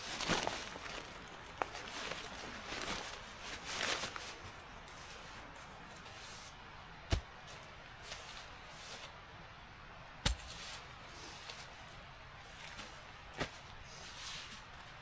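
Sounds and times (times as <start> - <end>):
camping gear rustling on dry leaves: 0.0 - 9.2, 10.3 - 15.0.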